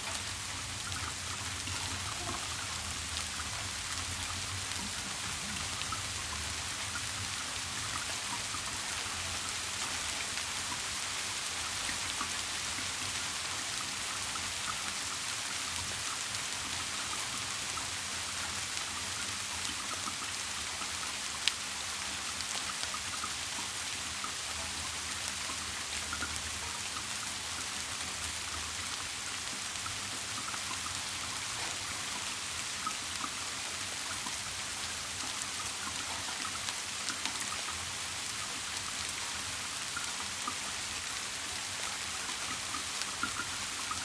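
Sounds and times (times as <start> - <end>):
steady rain falling: 0.0 - 44.0
water drips ticking: 0.0 - 44.0.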